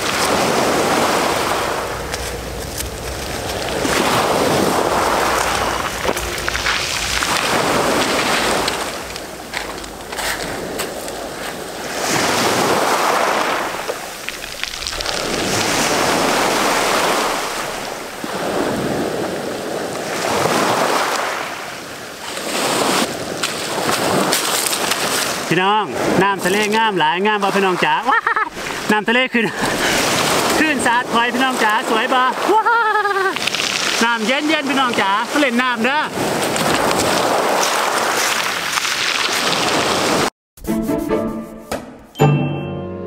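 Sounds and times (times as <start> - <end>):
small waves breaking on pebbles: 0.0 - 29.0, 29.6 - 40.3.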